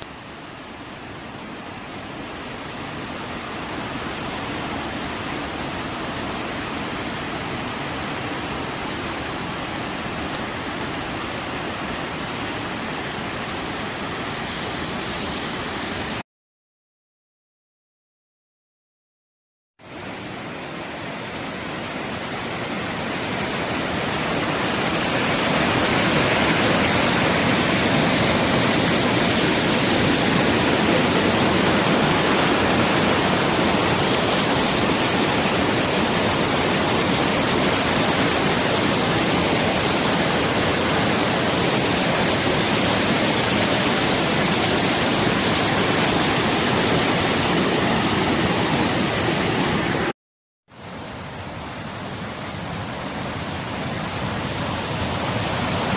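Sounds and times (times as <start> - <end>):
waterfall and stream rushing: 0.0 - 16.2, 19.8 - 50.1, 50.7 - 55.9.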